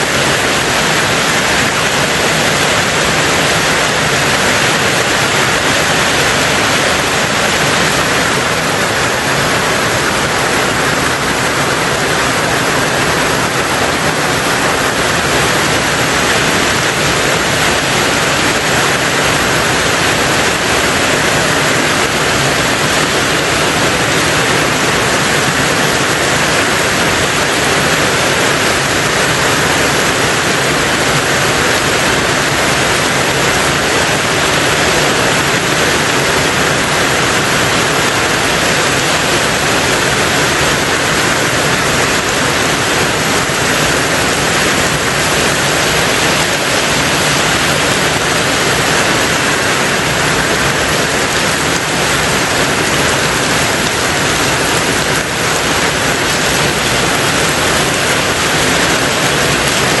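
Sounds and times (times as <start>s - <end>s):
heavy rain on a tin roof: 0.0s - 60.0s.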